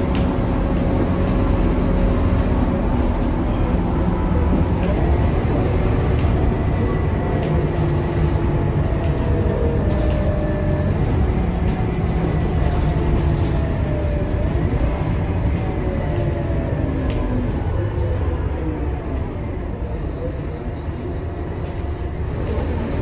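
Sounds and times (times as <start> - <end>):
bus engine droning: 0.0 - 23.0
rattles and clicks from bus body: 0.0 - 23.0
tyre and road noise: 0.0 - 23.0.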